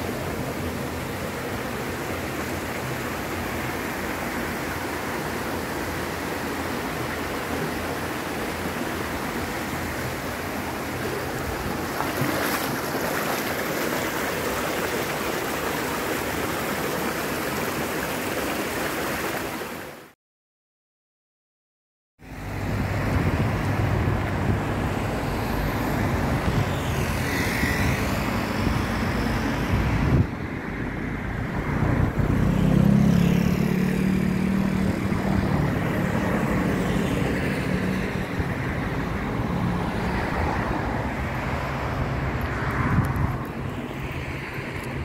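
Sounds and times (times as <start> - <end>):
vehicle engine and road noise: 0.0 - 19.8, 22.2 - 45.0.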